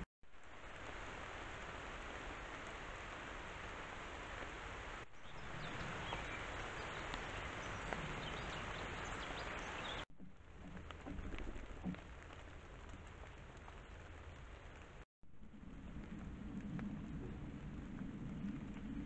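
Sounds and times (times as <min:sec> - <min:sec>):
woodland ambience hiss: 0:00.3 - 0:19.0.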